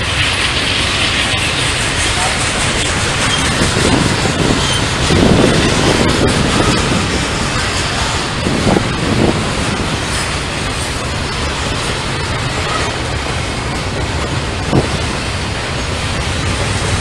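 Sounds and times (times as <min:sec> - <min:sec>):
freight train rumbling on rails: 0:00.0 - 0:17.0
wind buffeting microphone: 0:00.0 - 0:17.0.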